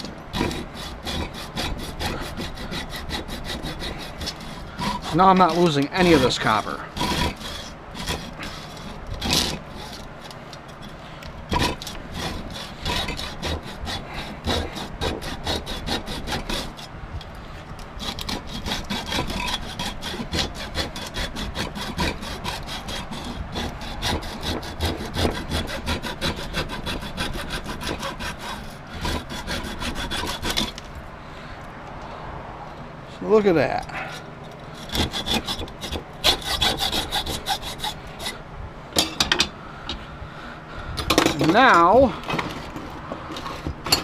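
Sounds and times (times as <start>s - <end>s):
hand saw cutting through metal: 0.0s - 16.9s, 17.7s - 31.0s, 33.9s - 38.4s, 41.1s - 44.0s.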